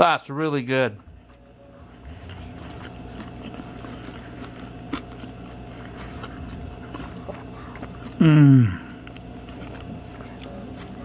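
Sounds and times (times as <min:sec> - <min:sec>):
steady low hum: 0:00.0 - 0:11.0
person chewing crunchy food: 0:00.8 - 0:11.0.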